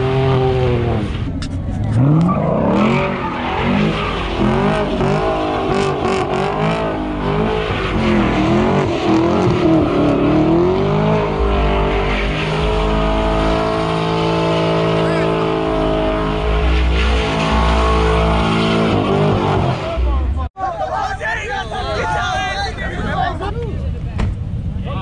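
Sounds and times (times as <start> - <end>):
car engine revving: 0.0 - 20.5
tyres spinning and squealing: 0.8 - 23.5.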